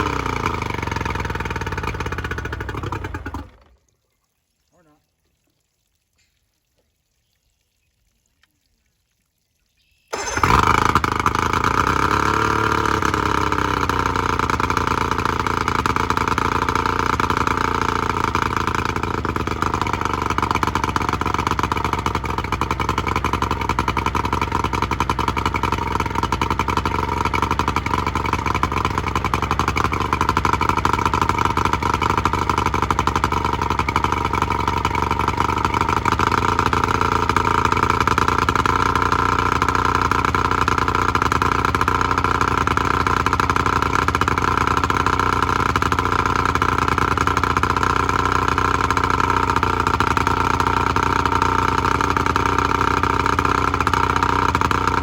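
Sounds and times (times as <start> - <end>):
outboard motor running: 0.0 - 3.8, 10.1 - 55.0.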